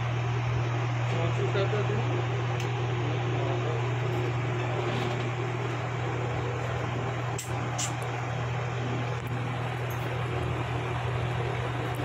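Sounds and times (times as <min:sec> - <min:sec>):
air cooler fan humming: 0:00.0 - 0:12.0.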